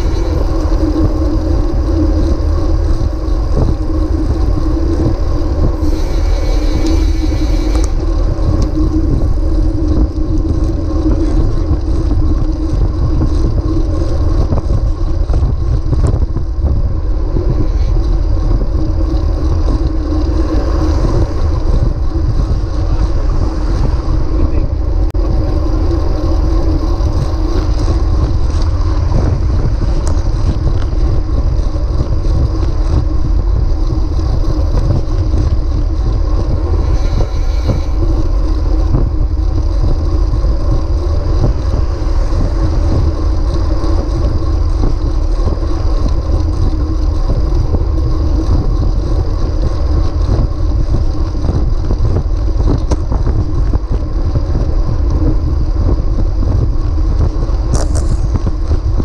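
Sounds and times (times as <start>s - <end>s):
bike tyre noise: 0.0s - 59.0s
wind rumble on microphone: 0.0s - 59.0s.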